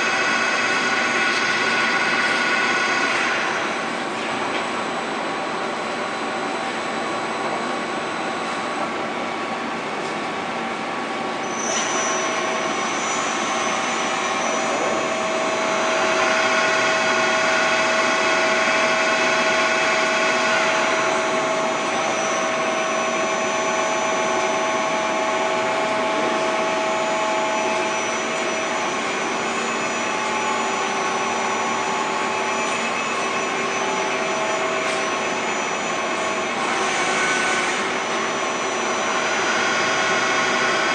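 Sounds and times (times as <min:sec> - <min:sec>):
milling machine whine with tones: 0:00.0 - 0:40.9.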